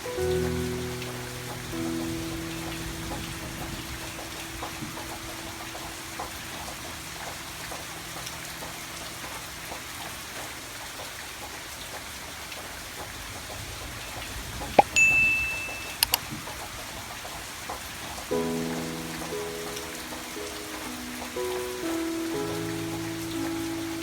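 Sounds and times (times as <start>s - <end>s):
rain patter: 0.0s - 24.0s.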